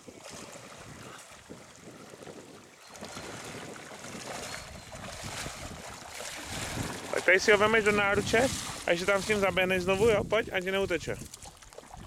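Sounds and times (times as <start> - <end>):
water splashing and lapping: 0.0 - 12.0
wind rumbling on microphone: 0.0 - 12.0.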